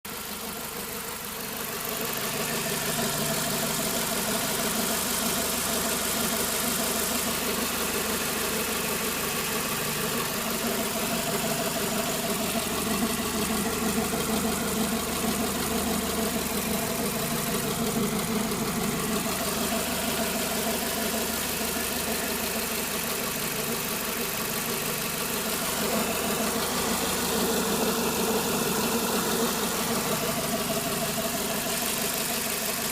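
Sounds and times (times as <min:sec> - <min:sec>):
car engine running: 0:00.1 - 0:32.9.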